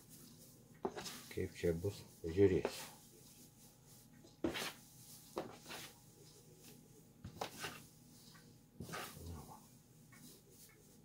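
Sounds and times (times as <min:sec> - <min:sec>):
tobacco rustling by hand: 0:00.0 - 0:11.0.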